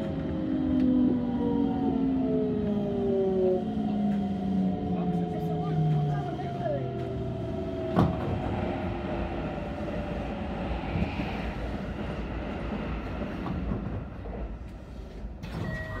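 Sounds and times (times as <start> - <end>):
train wheels rumbling on rail: 0.0 - 15.8
passing train: 0.0 - 16.0.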